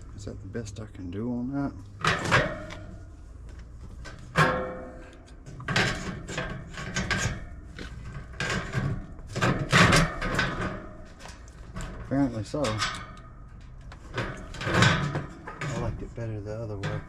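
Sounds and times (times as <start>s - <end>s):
knocks clunks and scraping: 0.0s - 17.0s.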